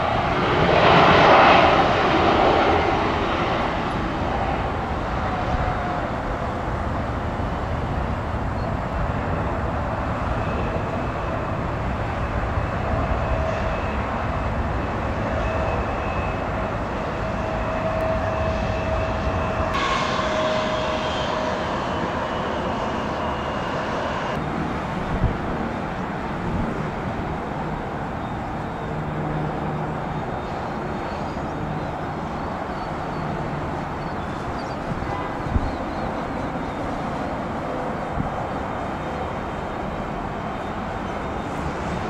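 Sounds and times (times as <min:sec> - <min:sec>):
jet engines rumbling and whining: 0:00.0 - 0:42.0.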